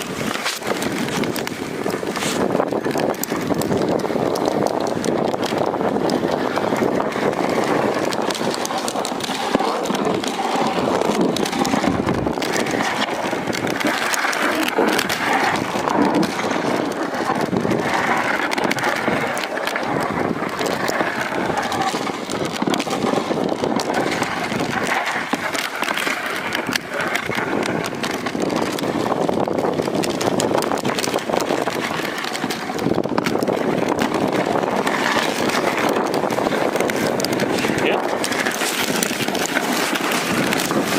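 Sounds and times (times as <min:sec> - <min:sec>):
sled runners scraping on snow: 0:00.0 - 0:40.9.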